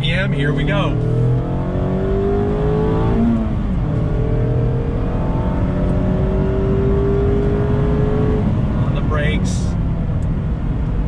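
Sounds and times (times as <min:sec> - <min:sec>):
car engine accelerating: 0:00.0 - 0:11.0
road and tyre noise: 0:00.0 - 0:11.0.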